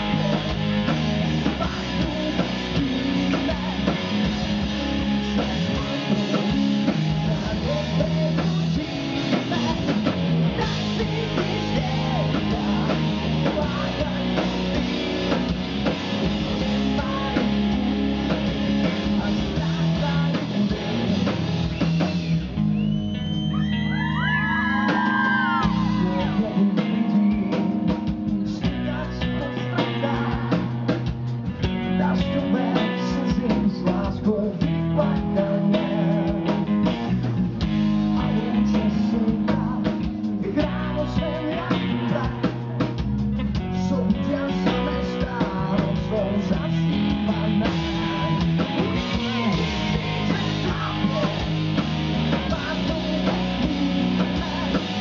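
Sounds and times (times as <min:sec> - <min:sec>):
man singing lead vocal: 0:00.0 - 0:22.1, 0:23.6 - 0:37.3, 0:37.9 - 0:55.0
bass guitar: 0:00.0 - 0:55.0
drum kit: 0:00.0 - 0:55.0
electric guitar: 0:00.0 - 0:55.0.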